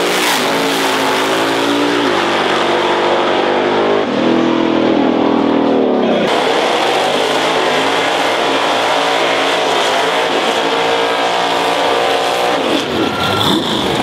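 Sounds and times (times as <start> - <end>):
drag car engine revving: 0.0 - 14.0.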